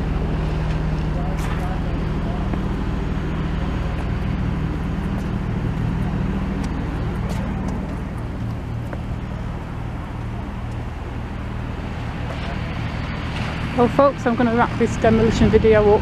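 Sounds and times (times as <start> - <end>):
engine droning: 0.0 - 16.0
road traffic noise: 0.0 - 16.0.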